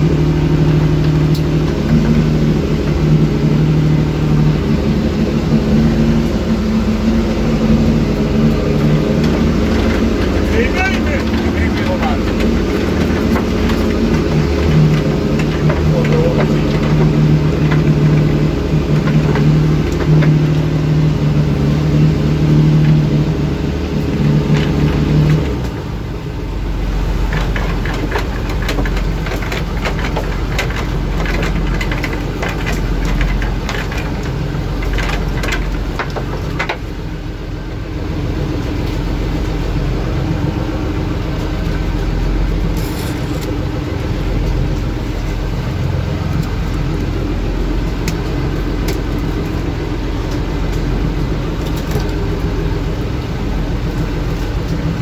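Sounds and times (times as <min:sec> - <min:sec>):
boat engine running: 0:00.0 - 0:55.0
knocks and clatter on a boat: 0:00.0 - 0:55.0
rushing water: 0:00.0 - 0:55.0
wind: 0:00.0 - 0:55.0.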